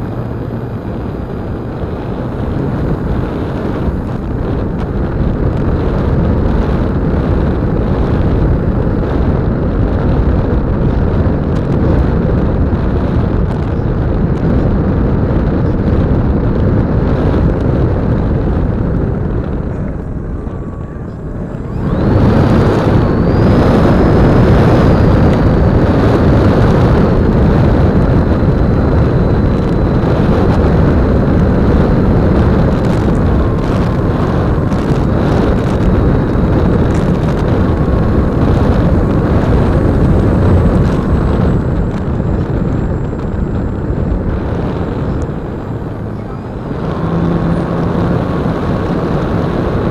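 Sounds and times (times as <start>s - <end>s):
electric motor and propeller drone: 0.0s - 49.9s
faint high whine: 0.0s - 49.9s
wind on microphone: 0.0s - 49.9s.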